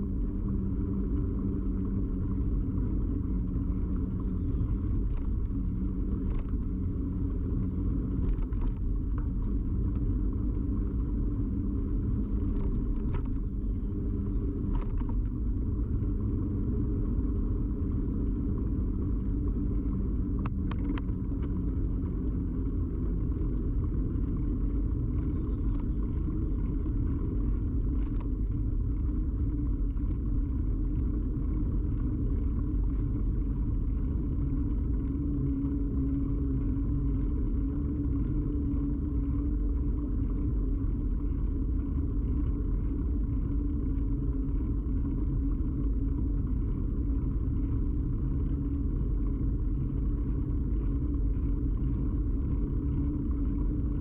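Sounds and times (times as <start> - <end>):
bicycle road rumble: 0.0 - 54.0
faint clicks and rattles: 0.0 - 54.0.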